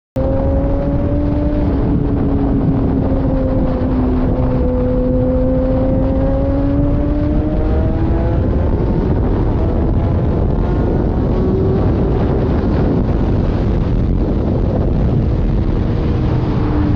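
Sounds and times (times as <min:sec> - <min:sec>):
motorcycle engine at high revs: 0:00.2 - 0:16.9
wind rumble: 0:00.2 - 0:16.9.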